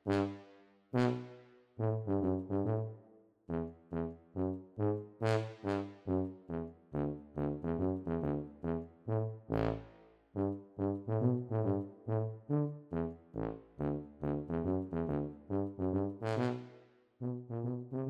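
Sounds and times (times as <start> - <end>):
bouncy comic brass tune: 0.0 - 0.4, 1.0 - 18.0.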